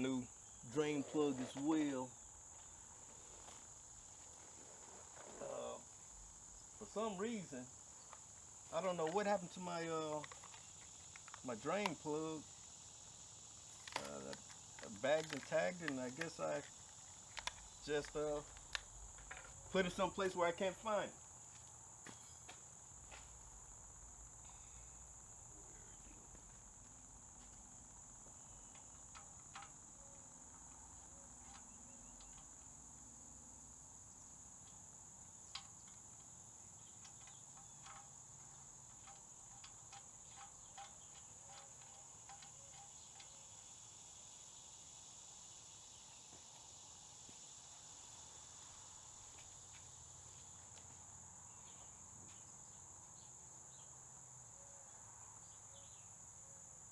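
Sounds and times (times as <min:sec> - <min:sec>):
high-pitched insect trill: 0:00.0 - 0:56.9.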